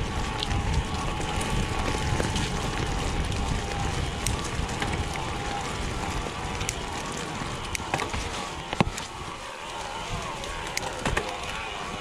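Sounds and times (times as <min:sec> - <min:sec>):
bike rattling over bumps: 0:00.0 - 0:12.0
bike tyres rushing on trail: 0:00.0 - 0:12.0.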